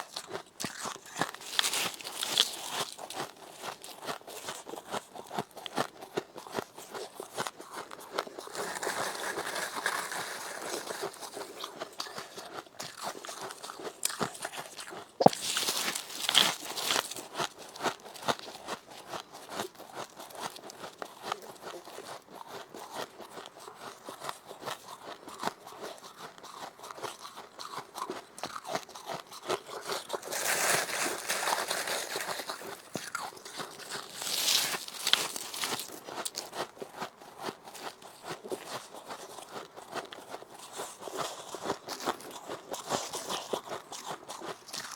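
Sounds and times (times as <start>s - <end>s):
crunching and chewing frost: 0.0s - 44.9s.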